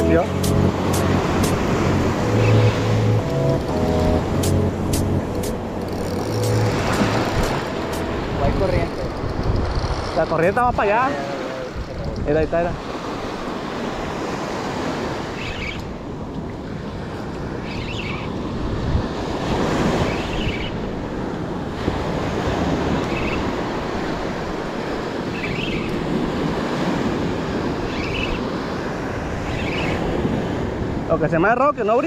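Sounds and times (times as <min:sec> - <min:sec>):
ocean surf washing: 0:00.0 - 0:32.0
wind on microphone: 0:03.6 - 0:11.0, 0:11.6 - 0:31.3.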